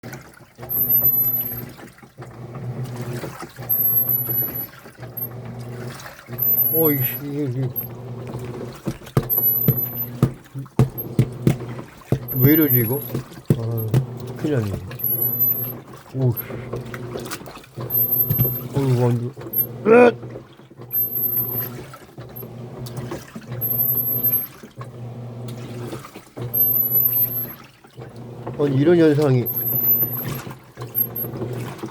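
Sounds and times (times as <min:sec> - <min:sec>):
washing machine motor hum: 0:00.0 - 0:31.9
water sloshing: 0:00.1 - 0:31.9.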